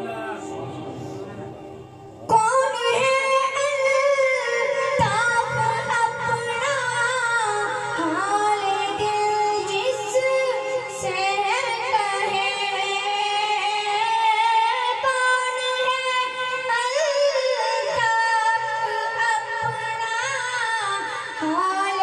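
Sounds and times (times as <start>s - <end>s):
boy chanting into a microphone: 0.0s - 22.0s.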